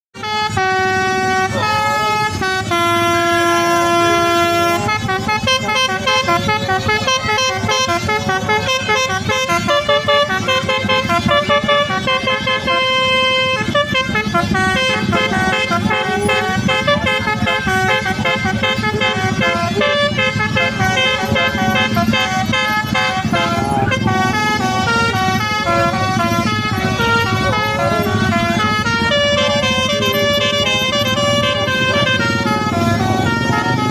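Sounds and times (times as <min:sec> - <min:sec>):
musical bus horn playing a tune: 0:00.2 - 0:33.9.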